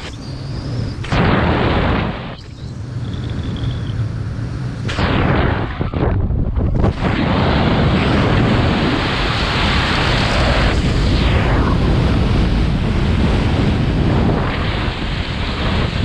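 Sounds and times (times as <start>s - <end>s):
wind rush over microphone: 0.0s - 16.0s.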